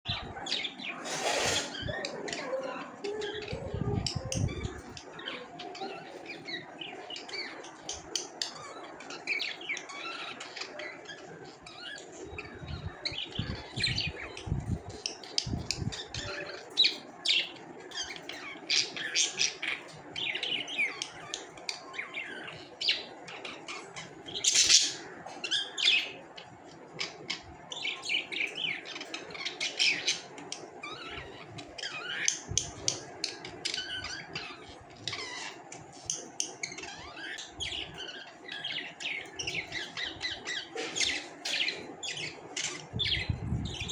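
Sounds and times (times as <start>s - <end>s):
budgerigars chirping: 4.4s - 14.4s, 15.9s - 26.3s, 27.0s - 43.9s.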